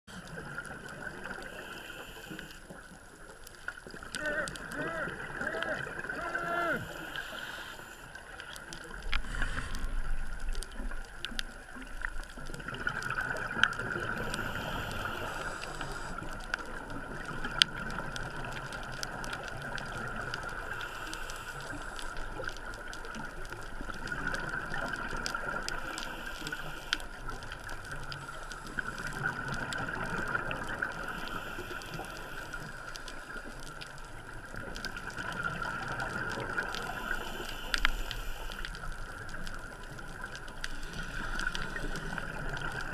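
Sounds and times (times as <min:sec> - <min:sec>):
exhaled bubbles gurgling: 0:00.1 - 0:42.9
scuba breathing: 0:00.1 - 0:42.9.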